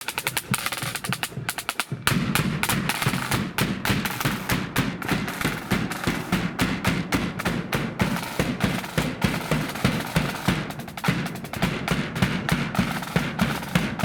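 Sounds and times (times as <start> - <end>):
bass drum beats: 0.0 - 14.0
snare drums playing: 0.0 - 14.0.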